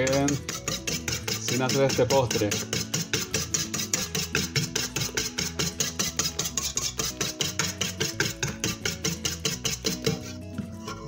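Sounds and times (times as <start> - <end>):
whisk beating batter in metal bowl: 0.0 - 11.0.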